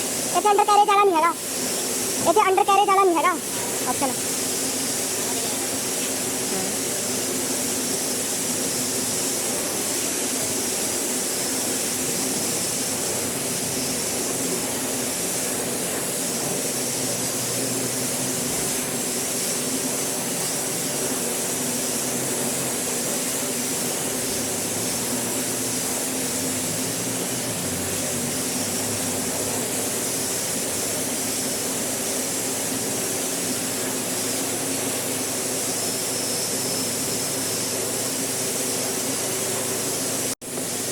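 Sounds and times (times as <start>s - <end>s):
high-pressure water spray hiss: 0.0s - 40.9s
pumps and motors humming: 0.0s - 40.9s.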